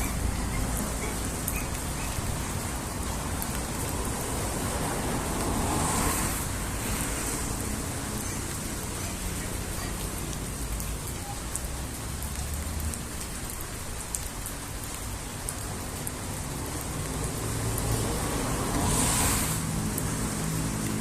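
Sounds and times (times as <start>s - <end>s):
raindrops ticking: 0.0s - 21.0s
steady rain shower: 0.0s - 21.0s.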